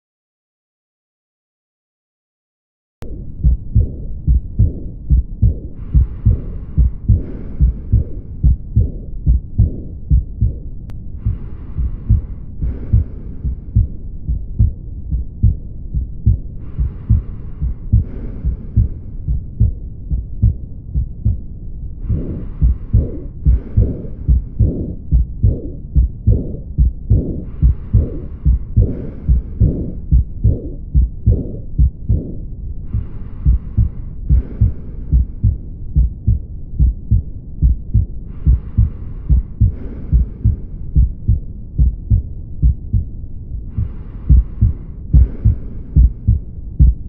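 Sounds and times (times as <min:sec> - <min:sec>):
breath sounds: 0:03.0 - 0:47.0
heartbeat thumping: 0:03.0 - 0:47.0.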